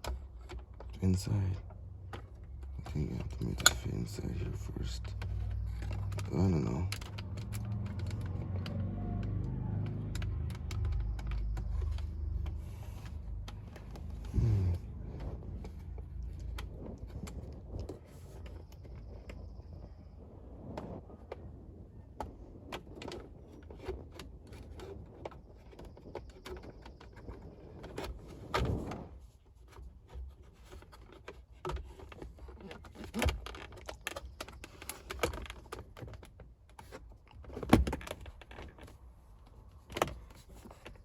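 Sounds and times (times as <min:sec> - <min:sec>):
shifter parts clicking and rattling: 0:00.0 - 0:20.0, 0:22.2 - 0:28.8, 0:29.6 - 0:41.0.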